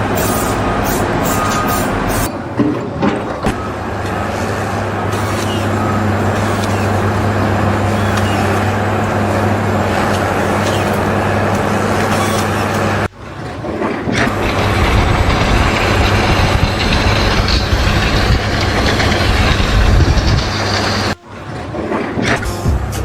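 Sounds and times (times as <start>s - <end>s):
low rumbling noise: 0.0s - 23.0s
machinery humming: 0.0s - 23.0s.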